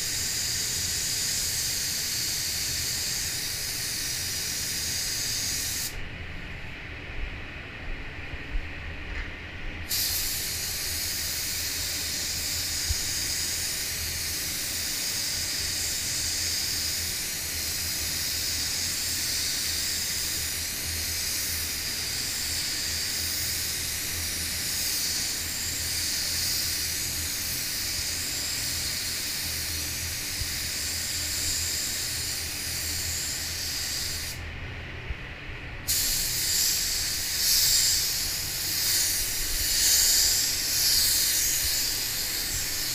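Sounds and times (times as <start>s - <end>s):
paint spray gun hissing: 0.0s - 6.0s, 9.9s - 34.4s, 35.8s - 42.9s.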